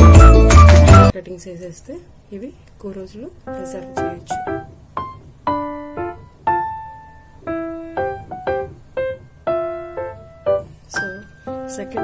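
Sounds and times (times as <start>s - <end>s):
piano notes and chords: 0.0s - 1.1s, 3.4s - 12.0s.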